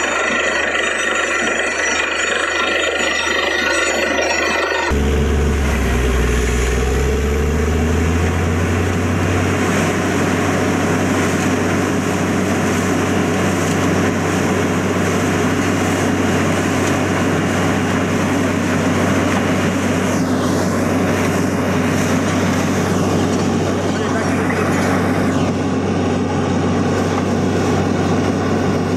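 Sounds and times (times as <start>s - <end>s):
drilling rig engine drone: 0.0s - 28.9s.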